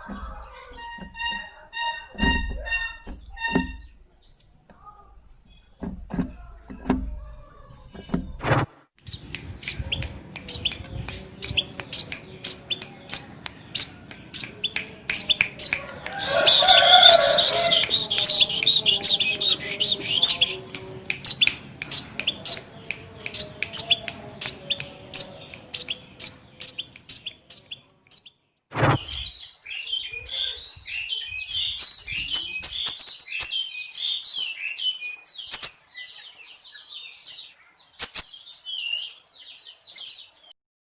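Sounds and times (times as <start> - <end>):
songbird chirping and twittering: 0.0 - 8.4, 9.0 - 40.6.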